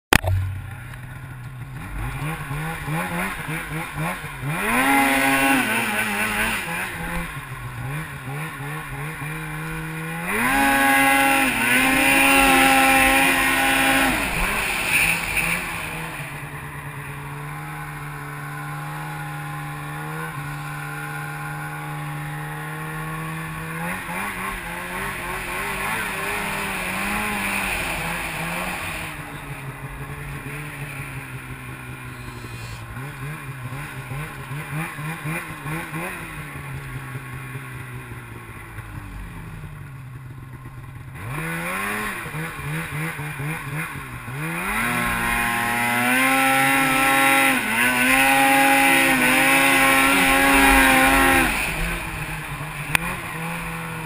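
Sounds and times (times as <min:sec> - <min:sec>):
snowmobile engine revving: 0:00.2 - 0:54.0.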